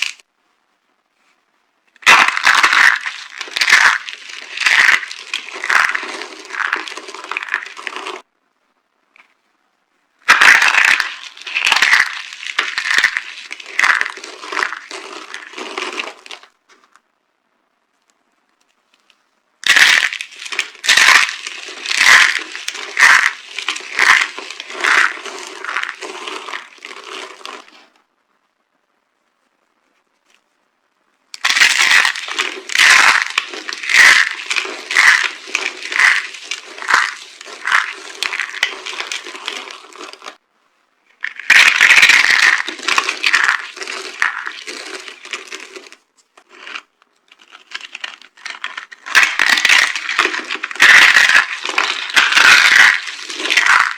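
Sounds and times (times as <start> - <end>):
bar soap crunching and crackling: 0.0 - 0.2, 1.9 - 8.2, 10.2 - 16.9, 19.0 - 28.0, 31.4 - 40.4, 41.1 - 53.9.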